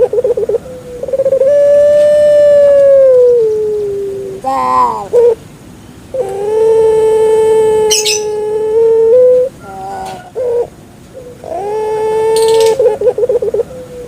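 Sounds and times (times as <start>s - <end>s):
dove cooing: 0.0s - 5.5s, 6.1s - 14.0s.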